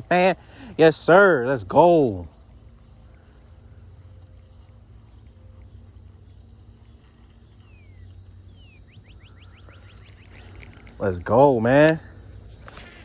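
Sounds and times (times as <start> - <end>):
light high hiss: 0.0 - 13.0
steady low hum: 0.0 - 13.0.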